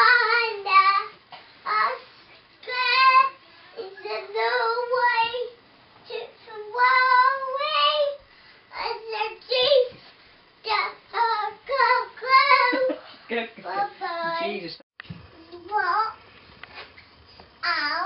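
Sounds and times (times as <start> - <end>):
girl singing: 0.0 - 10.0, 10.6 - 13.0, 13.6 - 14.5, 15.3 - 16.2, 17.6 - 18.0.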